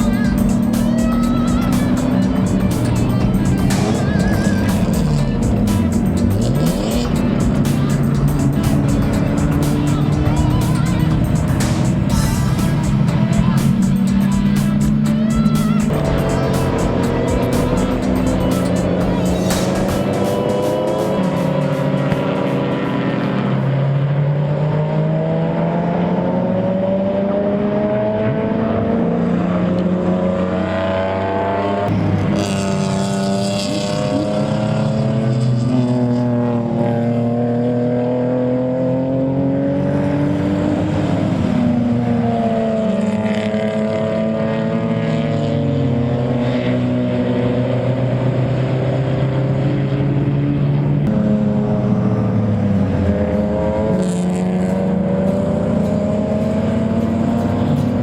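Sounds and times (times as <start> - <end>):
race car engines at hard throttle: 0.0 - 58.0.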